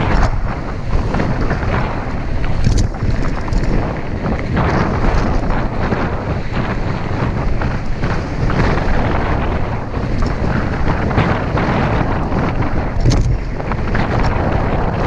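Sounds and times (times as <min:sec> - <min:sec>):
bike rattles and knocks: 0:00.0 - 0:15.0
low rumble of bike riding: 0:00.0 - 0:15.0
wind buffeting microphone: 0:00.0 - 0:15.0.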